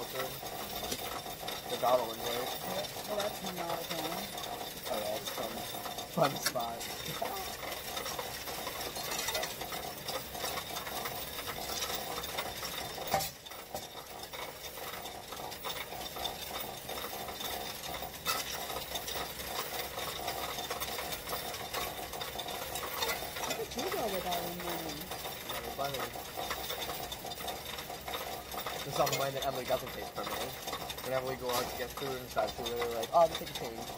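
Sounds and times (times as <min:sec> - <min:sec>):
coin machine whirring: 0:00.0 - 0:33.9
coins rattling and clinking: 0:00.0 - 0:33.9.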